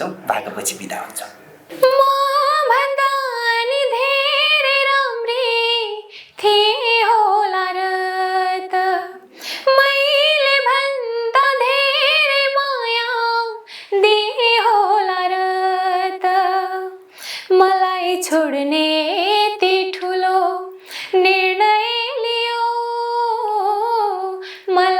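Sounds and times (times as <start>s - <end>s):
woman singing unaccompanied: 1.7s - 24.9s.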